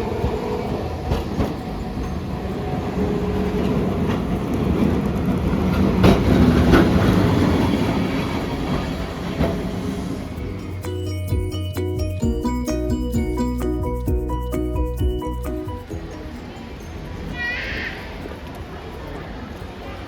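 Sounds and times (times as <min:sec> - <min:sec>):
streetcar rail rumble: 0:00.0 - 0:16.9.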